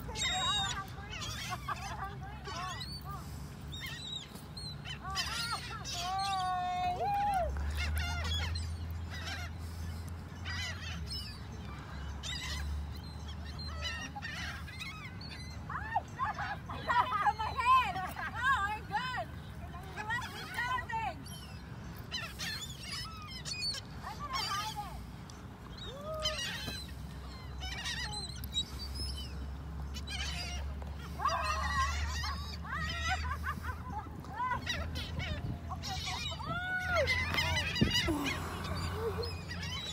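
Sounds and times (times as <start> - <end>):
gulls calling: 0.0 - 39.9
seagulls squawking: 0.0 - 39.9.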